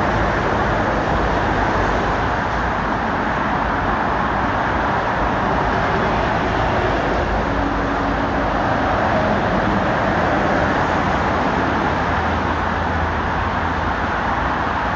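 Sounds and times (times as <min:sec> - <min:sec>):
road traffic passing: 0:00.0 - 0:14.9.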